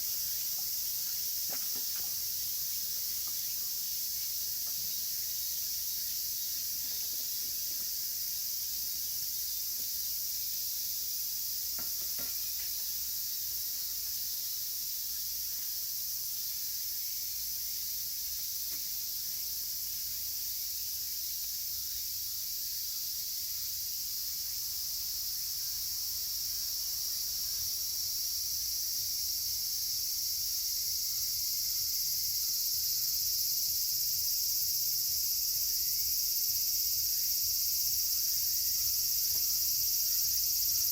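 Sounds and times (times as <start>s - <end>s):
cicadas shrilling: 0.0s - 40.9s.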